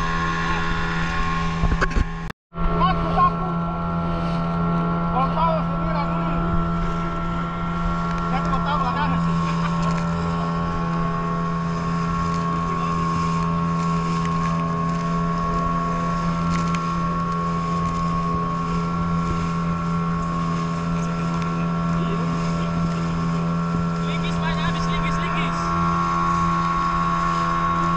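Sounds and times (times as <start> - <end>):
motorboat engine drone: 0.0 - 27.9.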